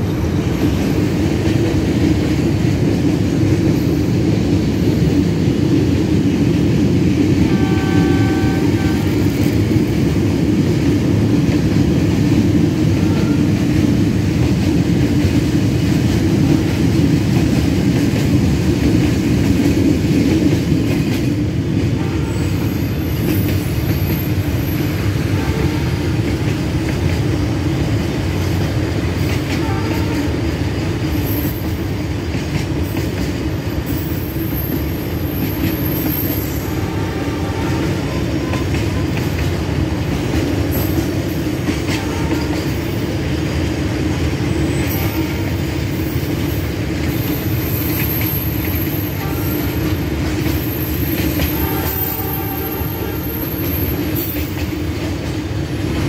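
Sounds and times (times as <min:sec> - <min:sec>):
train wheels rumbling over rails: 0:00.0 - 0:56.0.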